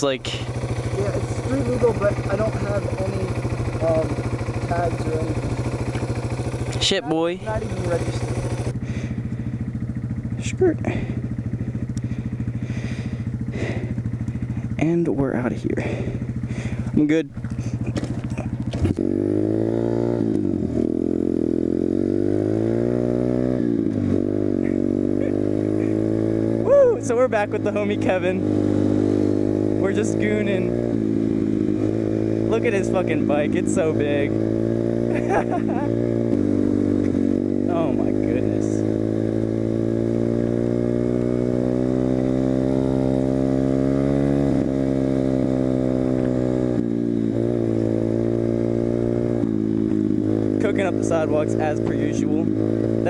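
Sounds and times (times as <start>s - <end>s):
motorbike engine running: 0.0s - 53.0s.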